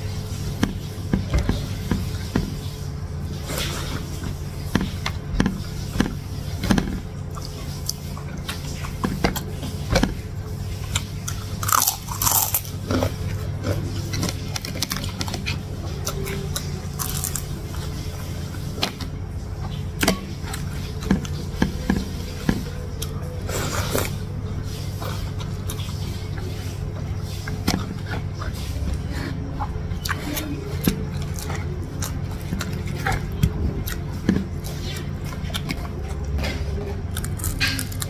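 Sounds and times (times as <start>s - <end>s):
person chewing food: 0.0s - 38.0s
steady low hum: 0.0s - 38.0s.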